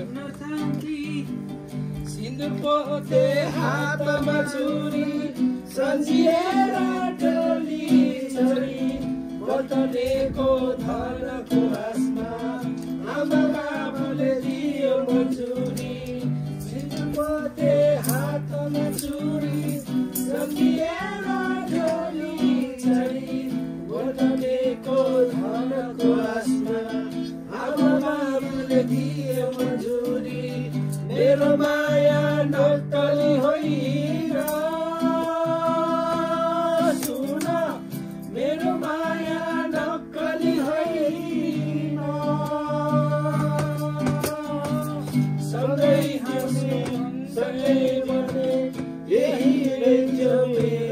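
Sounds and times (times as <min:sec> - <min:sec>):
person singing: 0:00.0 - 0:50.9
plucked acoustic guitar: 0:00.0 - 0:50.9.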